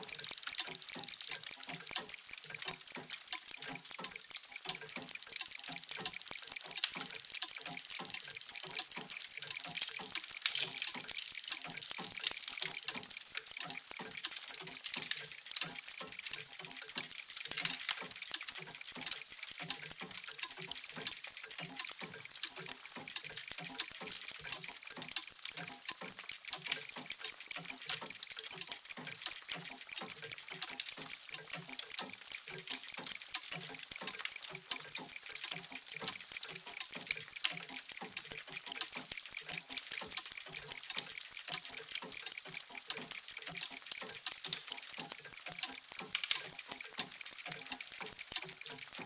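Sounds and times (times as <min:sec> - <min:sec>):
many clocks ticking: 0:00.0 - 0:49.0.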